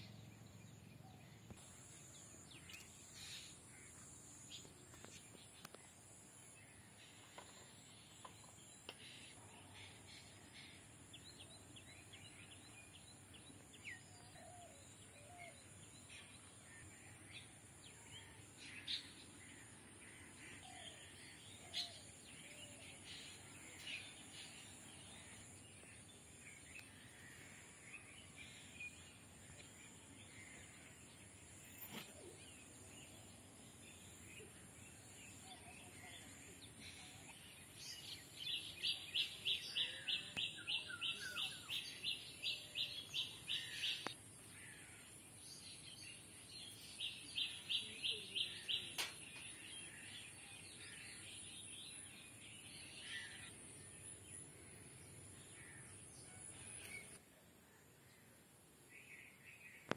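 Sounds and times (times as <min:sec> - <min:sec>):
birds chirping faintly: 0:00.0 - 0:59.9.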